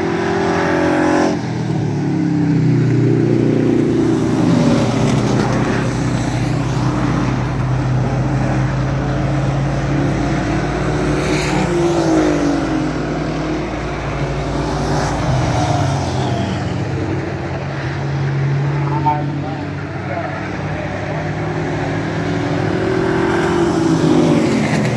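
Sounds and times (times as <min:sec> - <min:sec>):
race truck engines: 0:00.0 - 0:24.9.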